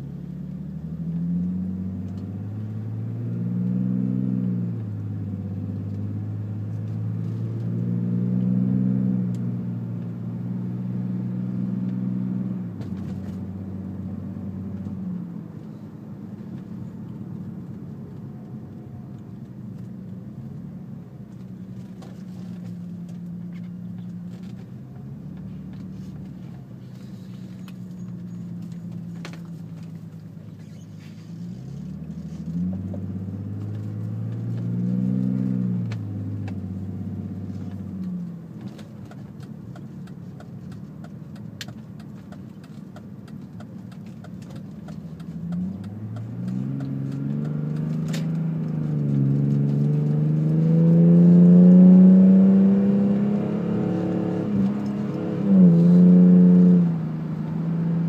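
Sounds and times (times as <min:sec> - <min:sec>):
car engine droning and revving: 0:00.0 - 0:58.0.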